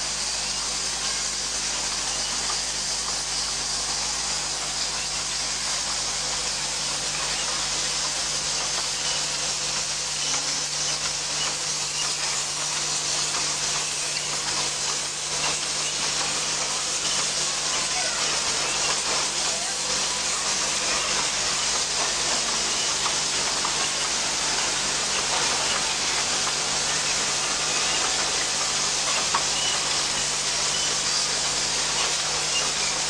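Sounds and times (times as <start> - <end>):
machine hissing and humming: 0.0 - 33.0.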